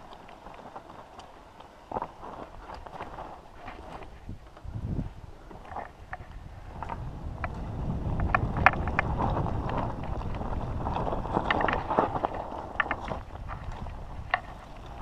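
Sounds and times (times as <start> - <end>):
bike rattling and clicking: 0.0 - 15.0
tyres rumbling over dirt and stones: 0.0 - 15.0
wind buffeting microphone: 2.2 - 15.0.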